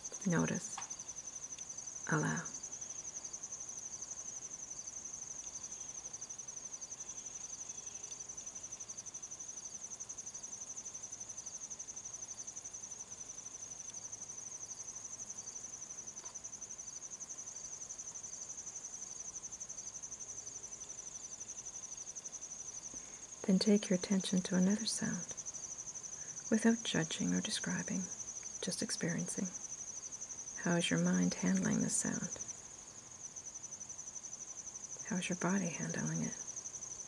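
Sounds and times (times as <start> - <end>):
faint insect chirping: 0.0 - 37.0
insects trilling: 0.0 - 37.0.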